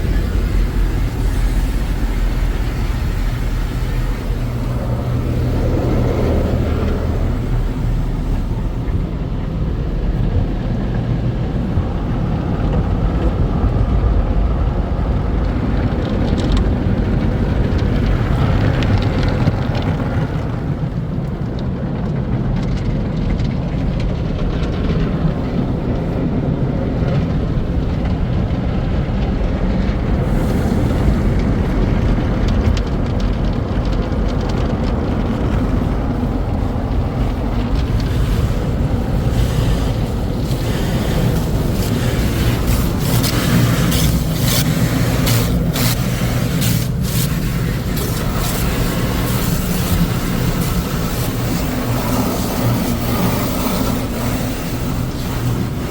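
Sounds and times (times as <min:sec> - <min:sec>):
car wash machinery and spray: 0:00.0 - 0:55.9.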